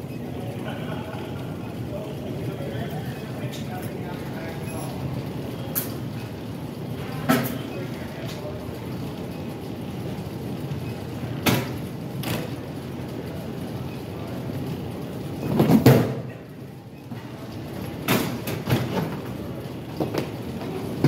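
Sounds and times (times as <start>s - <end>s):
airport terminal background noise: 0.0s - 21.0s.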